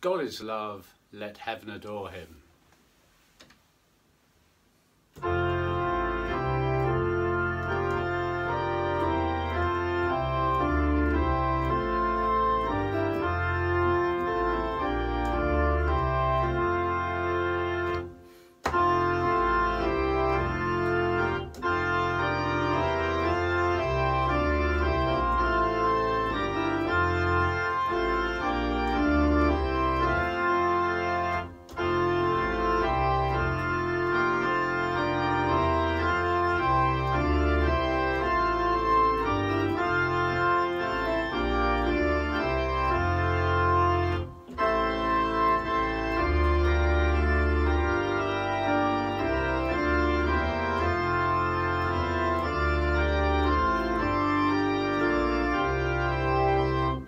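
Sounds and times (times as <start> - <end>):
church organ playing hymn: 5.1 - 57.0.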